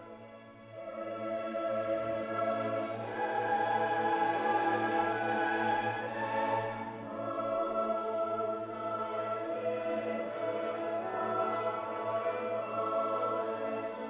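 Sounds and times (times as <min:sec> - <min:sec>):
choir singing sustained notes: 0:00.0 - 0:14.0
orchestra: 0:00.0 - 0:14.0.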